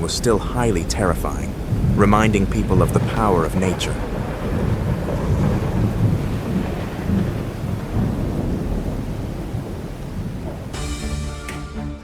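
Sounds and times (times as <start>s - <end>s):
rain: 0.0s - 11.6s
thunder rumble: 0.0s - 11.6s.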